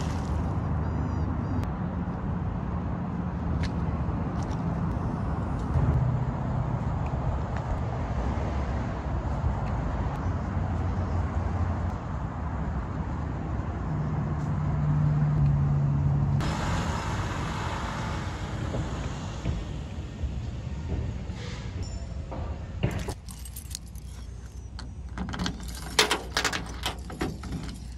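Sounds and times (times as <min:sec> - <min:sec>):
hissy roadside sound: 0:00.0 - 0:27.9
traffic rumble: 0:00.0 - 0:27.9.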